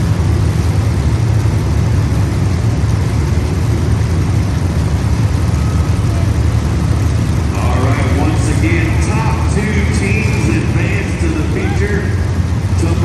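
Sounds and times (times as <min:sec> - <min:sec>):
race car engines idling: 0:00.0 - 0:13.0.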